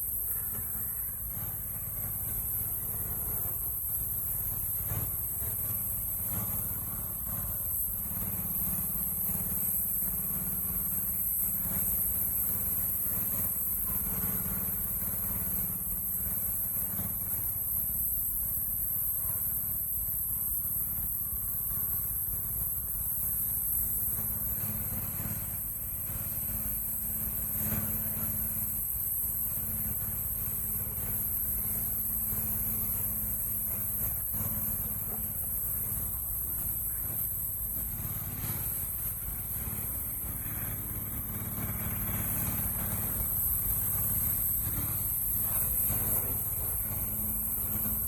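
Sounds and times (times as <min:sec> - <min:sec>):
pressure washer running: 0:00.0 - 0:48.0.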